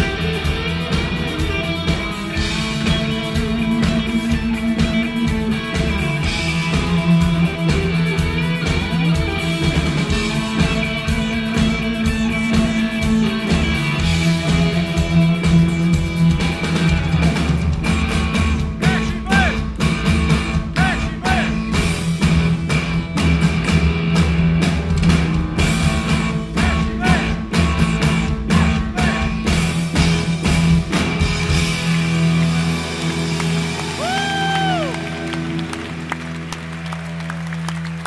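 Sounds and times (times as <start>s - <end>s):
drums with a steady beat: 0.0s - 35.0s
bass guitar: 0.0s - 38.0s
electric guitars: 0.0s - 38.0s.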